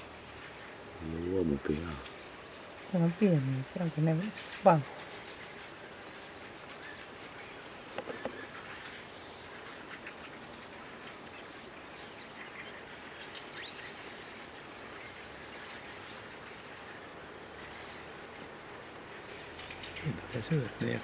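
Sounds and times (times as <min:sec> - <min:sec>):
outdoor background hiss: 0:00.0 - 0:21.0
small birds chirping: 0:00.0 - 0:21.0.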